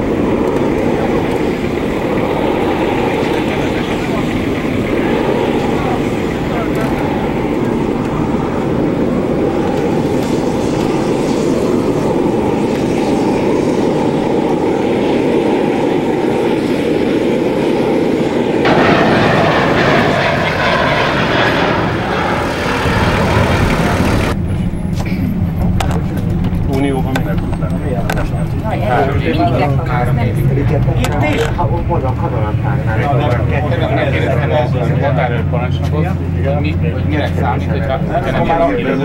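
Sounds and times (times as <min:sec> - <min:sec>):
aircraft engines running: 0:00.0 - 0:39.0.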